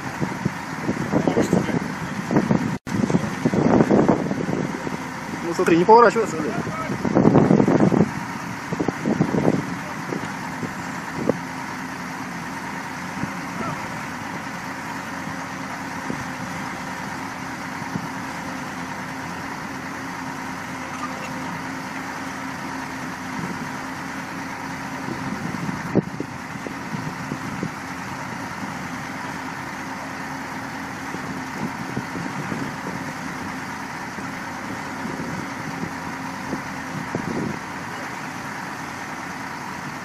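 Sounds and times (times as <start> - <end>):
heavy machine engine running: 0.0 - 40.0.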